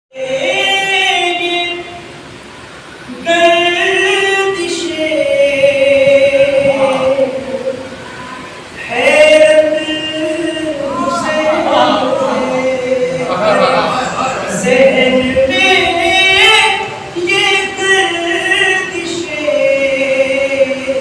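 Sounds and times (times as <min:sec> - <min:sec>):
person chanting unaccompanied: 0:00.1 - 0:02.2, 0:03.1 - 0:21.0.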